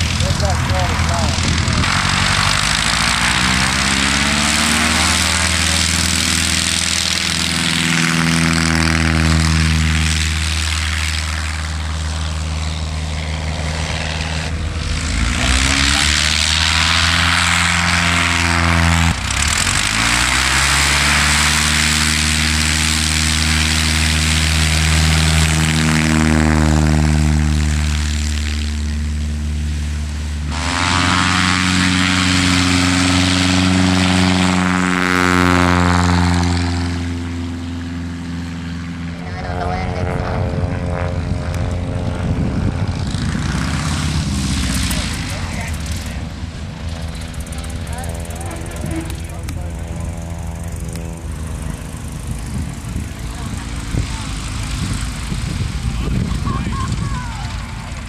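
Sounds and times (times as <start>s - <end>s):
light aircraft engine and propeller: 0.0s - 58.0s.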